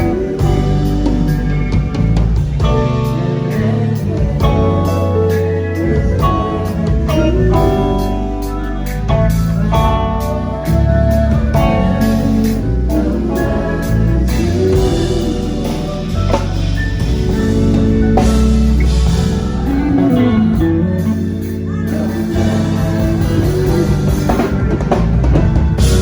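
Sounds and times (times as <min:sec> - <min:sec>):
band music with guitar and drums: 0:00.0 - 0:26.0
heavy bass line: 0:00.0 - 0:26.0.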